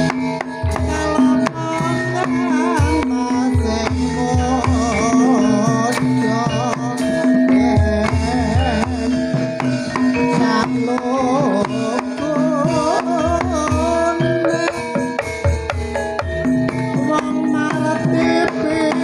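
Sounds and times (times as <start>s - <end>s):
drum strokes: 0.0s - 19.0s
gamelan music: 0.0s - 19.0s
rattling percussion: 0.0s - 19.0s.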